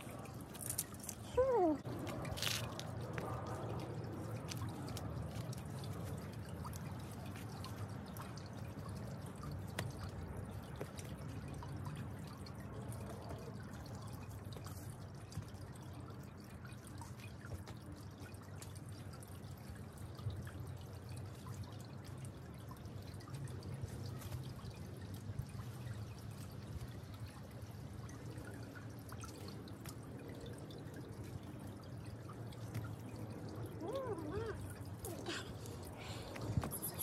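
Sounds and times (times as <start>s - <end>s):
fountain water trickling: 0.0s - 37.0s.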